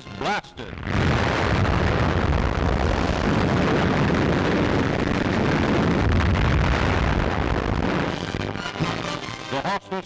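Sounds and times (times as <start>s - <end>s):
heavy explosion rumble: 0.7s - 9.0s.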